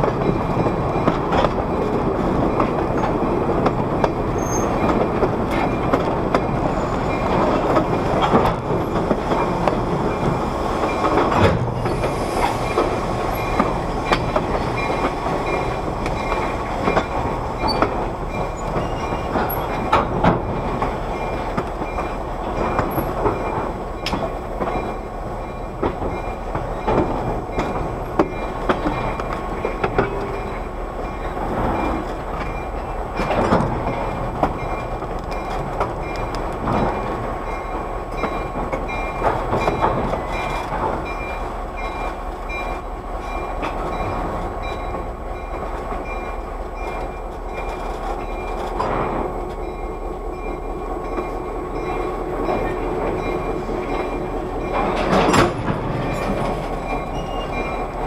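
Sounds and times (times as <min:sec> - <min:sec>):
train couplers clanking: 0:00.0 - 0:58.0
train wheels rumbling on rail: 0:00.0 - 0:58.0.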